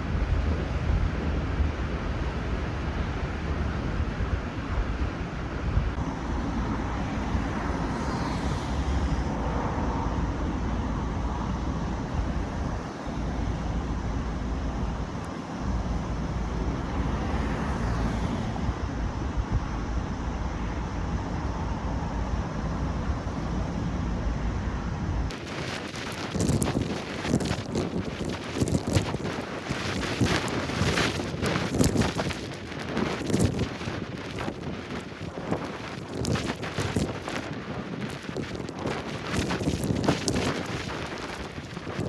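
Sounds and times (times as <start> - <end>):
strong wind buffeting microphone: 0.0 - 42.0
cars passing: 0.1 - 38.0.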